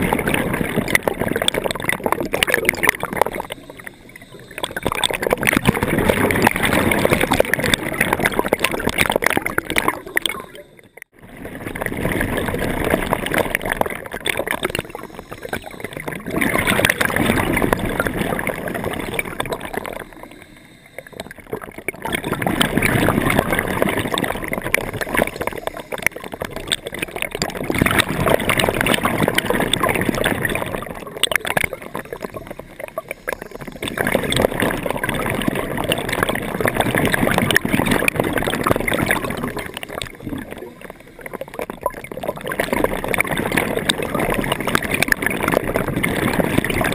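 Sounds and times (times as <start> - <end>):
bubbles gurgling and bursting: 0.0 - 46.9.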